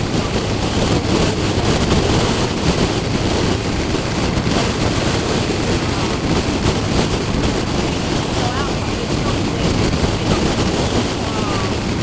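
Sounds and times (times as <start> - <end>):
motorcycle running: 0.0 - 12.0
wind buffeting microphone: 0.0 - 12.0.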